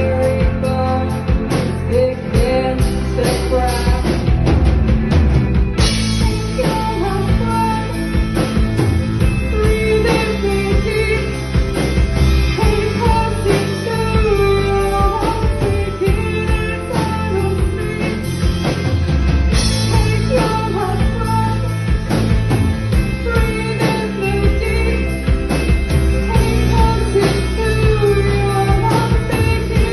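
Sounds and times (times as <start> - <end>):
drums and cymbals: 0.0 - 29.9
rock band playing live: 0.0 - 29.9.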